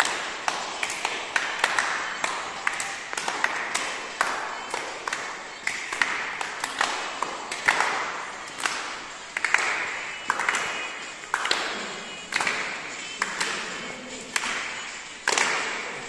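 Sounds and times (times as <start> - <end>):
group clapping in echoing hall: 0.0 - 16.0.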